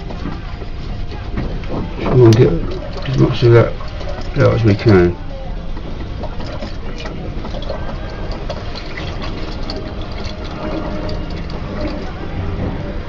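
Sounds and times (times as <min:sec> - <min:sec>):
oil draining and gurgling: 0:00.0 - 0:13.0.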